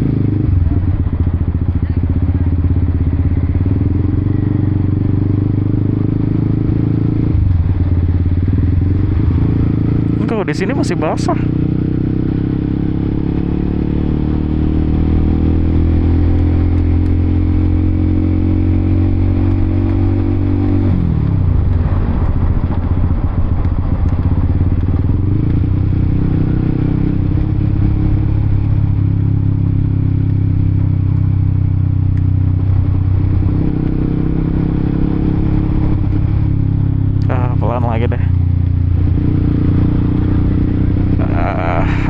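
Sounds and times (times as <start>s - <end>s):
motorcycle engine cruising: 0.0s - 42.0s.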